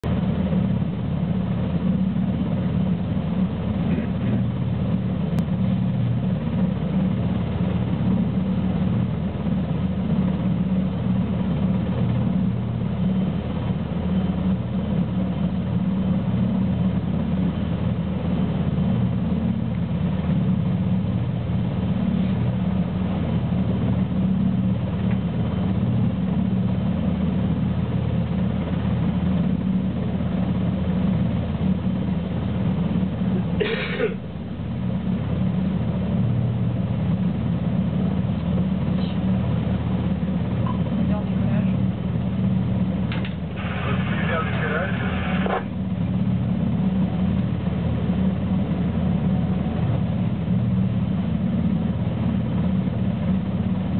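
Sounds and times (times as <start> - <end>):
helicopter engines and rotor: 0.0 - 53.9.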